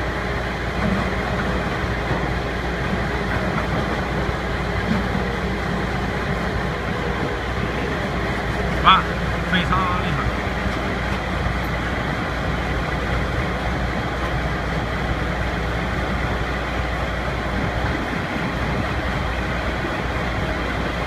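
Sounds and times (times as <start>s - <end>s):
pile driver engine drone: 0.0s - 21.0s.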